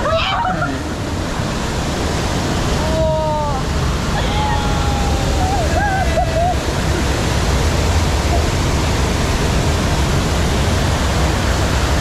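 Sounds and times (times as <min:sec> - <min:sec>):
churning water of river rapids: 0:00.0 - 0:12.0.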